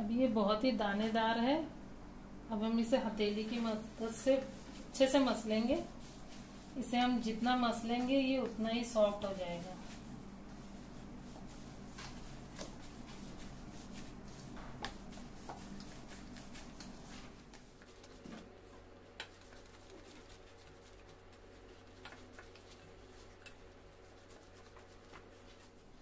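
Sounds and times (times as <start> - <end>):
hand rubbing curd in bowl: 3.1 - 26.0.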